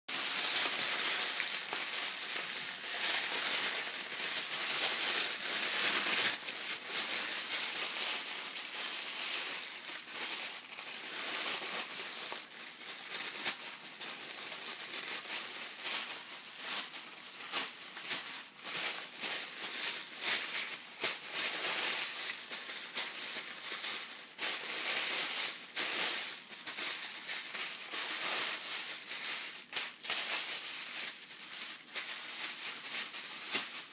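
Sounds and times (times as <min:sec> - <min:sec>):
tissue paper crinkling: 0:00.1 - 0:33.9.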